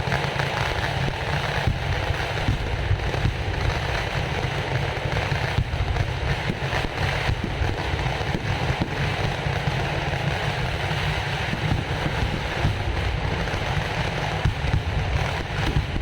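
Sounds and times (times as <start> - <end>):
crackle of small firework bangs: 0.0 - 16.0
fireworks barrage rumble: 0.0 - 16.0.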